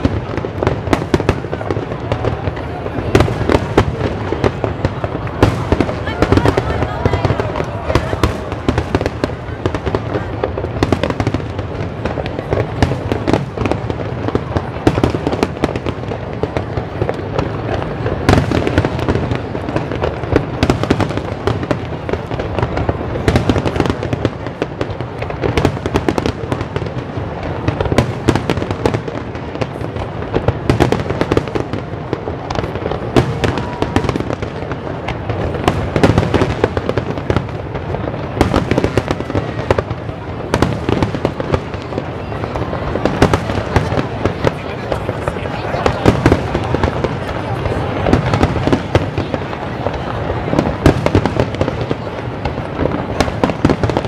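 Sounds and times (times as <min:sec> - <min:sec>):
fireworks bursting and crackling: 0:00.0 - 0:54.0
loud firework reports: 0:00.0 - 0:54.0.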